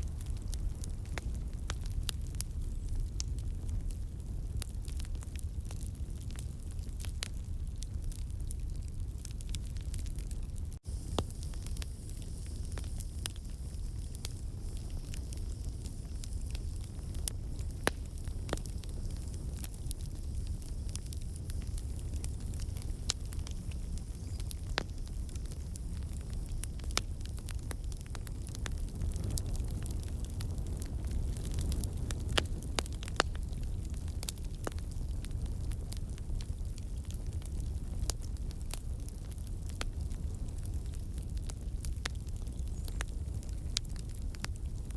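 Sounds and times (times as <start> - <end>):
low rumble of flames: 0.0 - 44.9
wood crackling and popping: 0.0 - 44.9.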